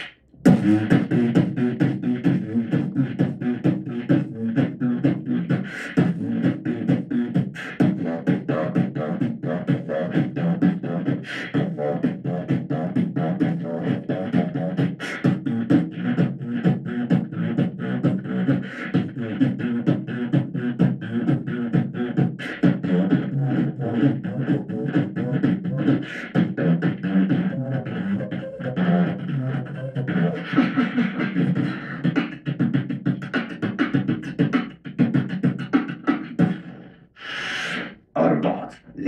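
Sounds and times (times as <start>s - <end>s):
beatboxing into microphone: 0.0s - 39.0s.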